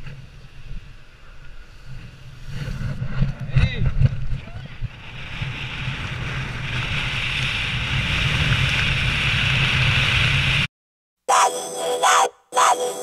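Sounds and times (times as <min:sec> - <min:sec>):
wind rushing over microphone: 0:00.0 - 0:10.7.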